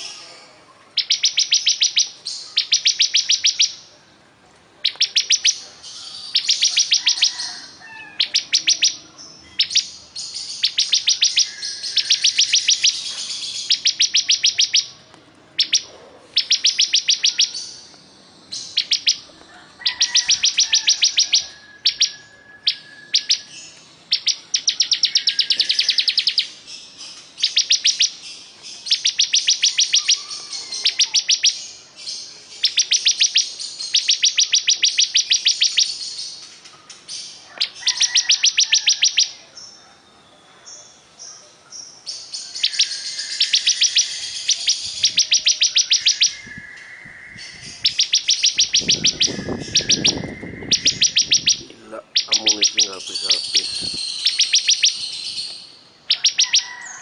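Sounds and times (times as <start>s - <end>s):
bird singing high ticking trills: 0.0s - 3.9s, 4.8s - 39.8s, 42.0s - 57.0s.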